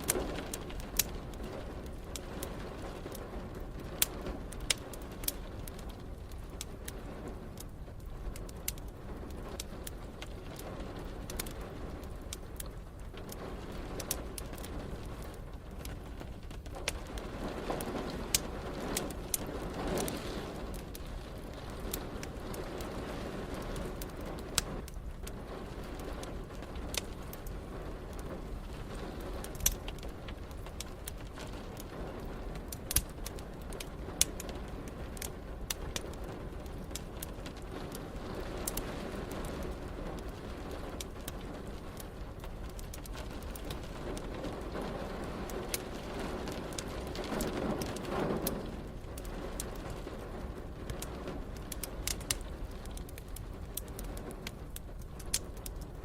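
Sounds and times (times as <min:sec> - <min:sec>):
rain rumble: 0:00.0 - 0:56.0
wood fire crackling and popping: 0:00.0 - 0:56.0.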